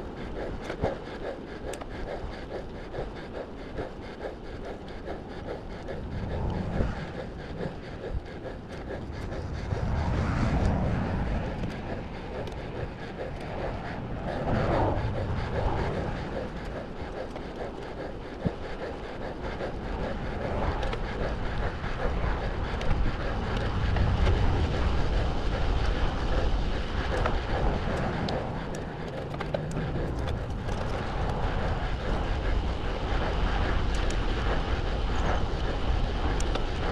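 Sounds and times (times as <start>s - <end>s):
wind noise on microphone: 0.0s - 36.9s.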